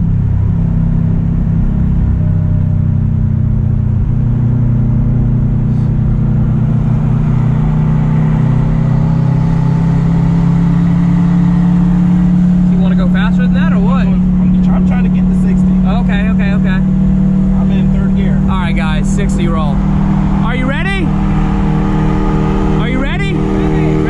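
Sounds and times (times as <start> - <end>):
car engine at highway speed: 0.0 - 24.0
road noise: 0.0 - 24.0.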